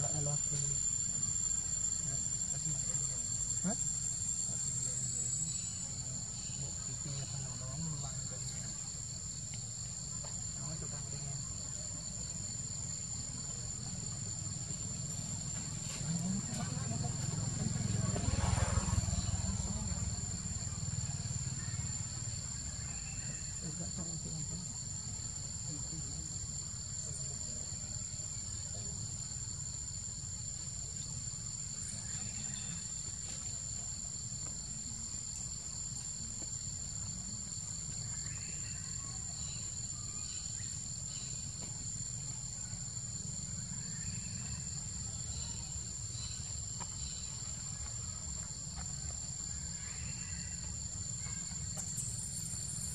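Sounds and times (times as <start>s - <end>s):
high-pitched insect drone: 0.0s - 30.1s, 37.4s - 52.9s.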